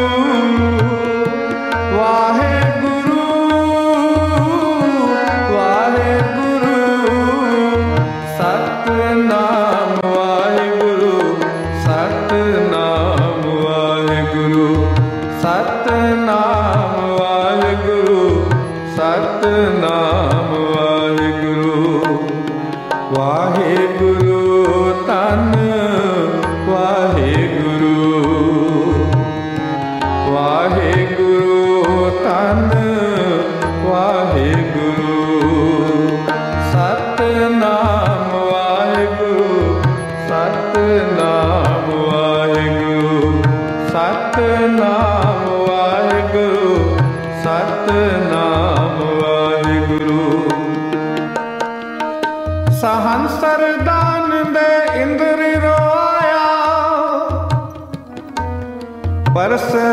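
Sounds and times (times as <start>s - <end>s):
harmonium melody: 0.0s - 59.9s.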